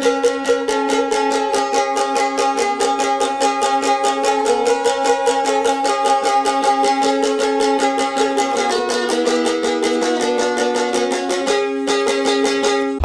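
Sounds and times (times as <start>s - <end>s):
plucked folk lute strummed: 0.0s - 13.0s.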